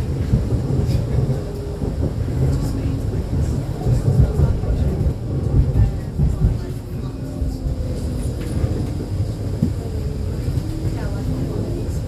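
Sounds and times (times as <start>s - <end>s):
tram low rumble: 0.0s - 12.0s.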